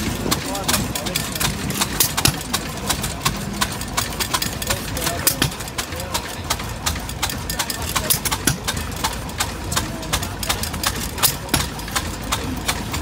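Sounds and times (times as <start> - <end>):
sharp mechanical clicks: 0.0 - 13.0
stationary engine rumbling: 0.0 - 13.0.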